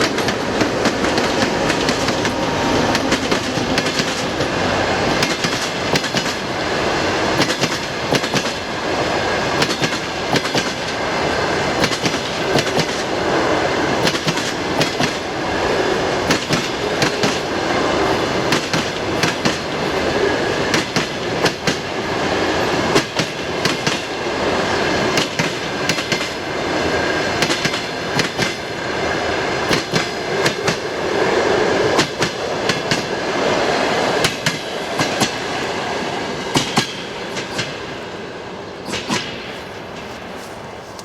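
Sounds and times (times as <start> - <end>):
train rolling rush: 0.0 - 41.0.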